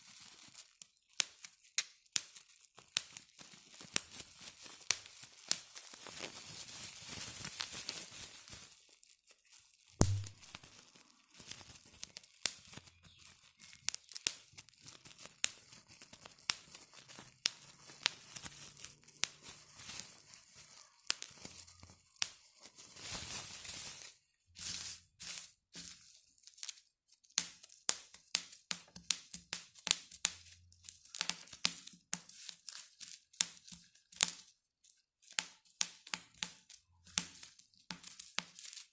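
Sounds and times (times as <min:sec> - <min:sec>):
bubble wrap popping: 0:00.0 - 0:38.9
plastic sheet crinkling: 0:00.0 - 0:38.9.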